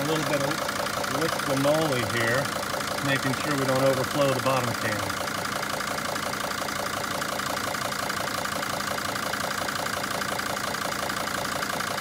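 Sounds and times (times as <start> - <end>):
diesel engine idling with clatter: 0.0 - 12.0.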